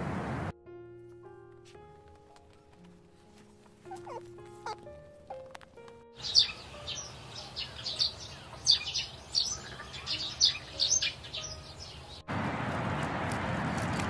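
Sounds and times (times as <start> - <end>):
birds chirping: 2.2 - 14.0.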